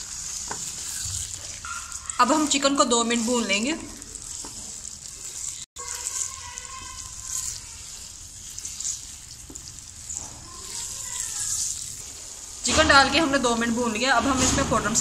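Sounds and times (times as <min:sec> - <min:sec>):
chicken sizzling in hot oil: 0:00.0 - 0:15.0
wooden spoon stirring: 0:00.0 - 0:15.0.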